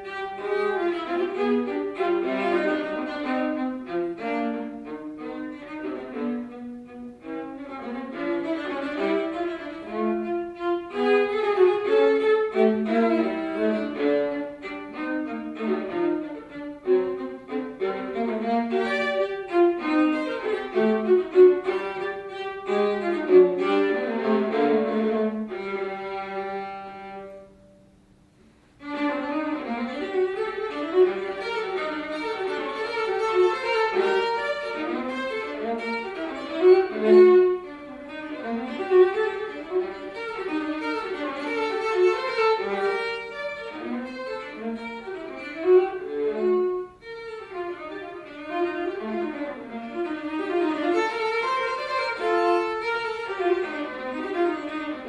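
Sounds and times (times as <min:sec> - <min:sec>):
solo viola playing: 0:00.0 - 0:28.0, 0:28.6 - 0:55.0.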